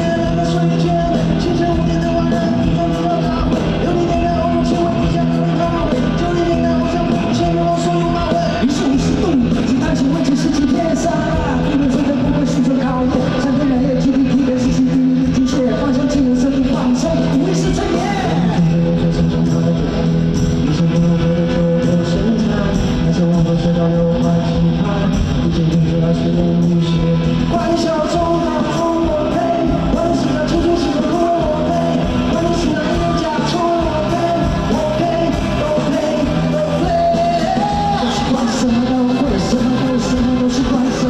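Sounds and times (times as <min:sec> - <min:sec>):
live rock band: 0:00.0 - 0:41.0
person singing: 0:00.0 - 0:41.0.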